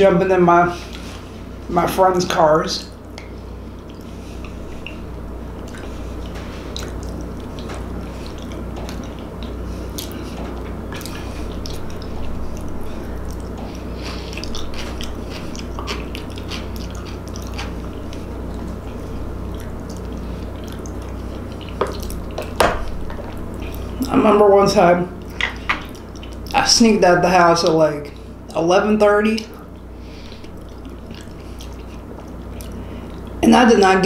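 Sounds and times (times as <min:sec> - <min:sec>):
steady low hum: 0:00.0 - 0:34.0
person chewing food: 0:00.8 - 0:01.4, 0:02.9 - 0:24.2, 0:25.1 - 0:26.6, 0:29.4 - 0:33.4.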